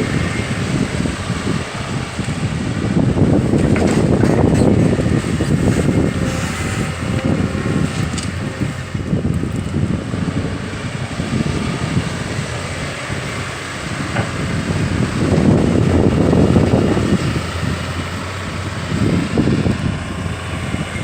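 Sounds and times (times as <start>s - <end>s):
excavator engine rumbling: 0.0s - 21.0s.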